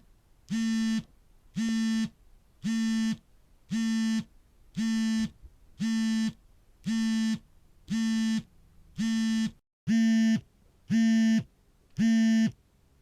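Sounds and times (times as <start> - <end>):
phone vibration buzzing: 0.5 - 2.1, 2.7 - 12.6.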